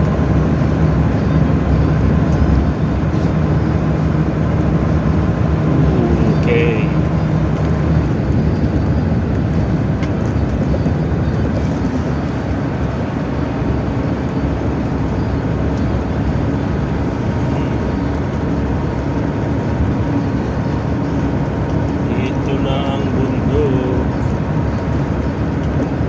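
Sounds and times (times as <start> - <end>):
truck engine and road noise: 0.0 - 26.0.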